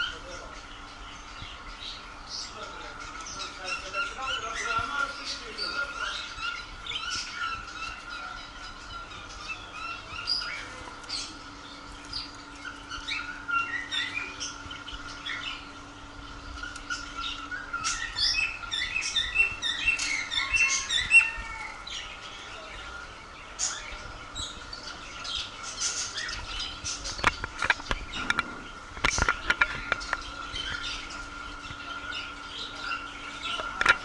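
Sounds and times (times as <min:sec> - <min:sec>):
caged birds chirping: 0:00.0 - 0:34.0
faint steady hum: 0:00.0 - 0:34.0.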